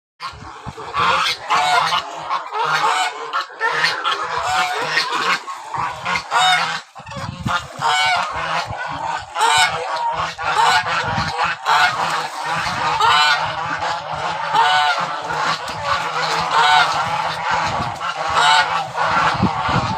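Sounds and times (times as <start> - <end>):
geese honking: 0.2 - 19.9.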